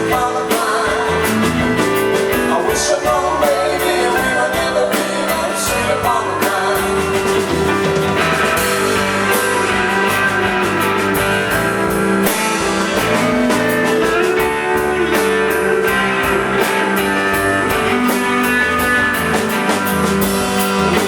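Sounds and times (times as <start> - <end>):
bass guitar: 0.0 - 21.0
drum kit steady beat: 0.0 - 21.0
electric guitars: 0.0 - 21.0.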